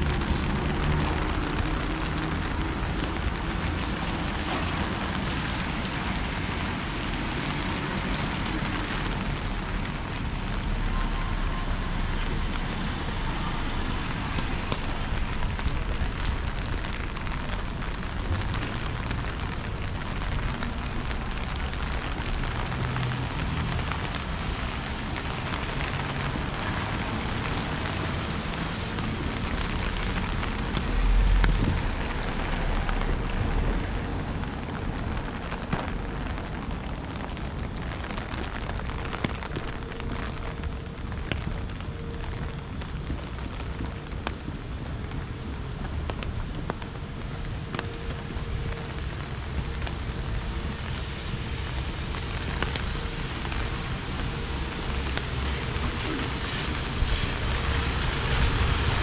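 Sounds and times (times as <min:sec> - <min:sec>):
steady rain falling: 0:00.0 - 0:59.0
wind rumble on microphone: 0:11.4 - 0:59.0.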